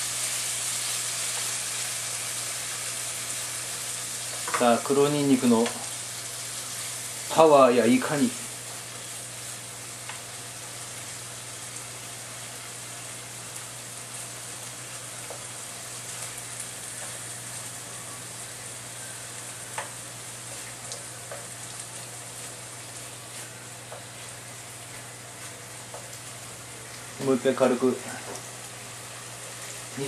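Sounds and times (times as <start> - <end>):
meat sizzling in a frying pan: 0.0 - 30.0.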